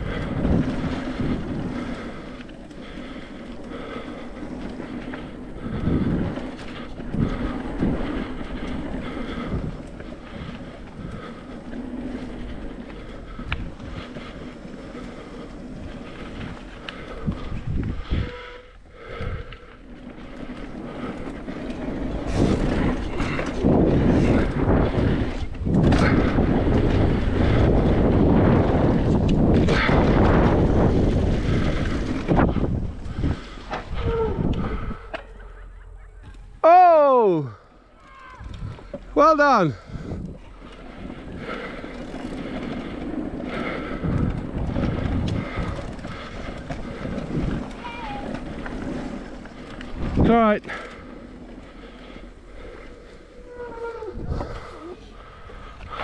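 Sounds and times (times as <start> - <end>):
wind buffeting microphone: 0.0 - 36.6, 37.7 - 56.0
bike rolling over trail: 0.0 - 56.0.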